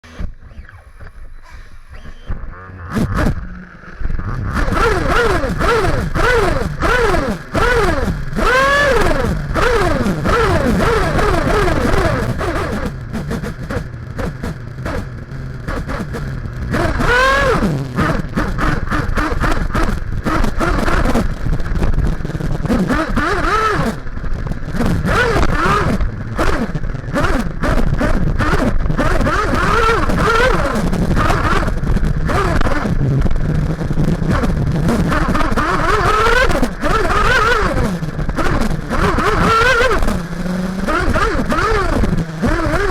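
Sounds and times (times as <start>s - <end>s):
model car nitro engine revving: 0.0s - 22.0s, 22.6s - 42.9s.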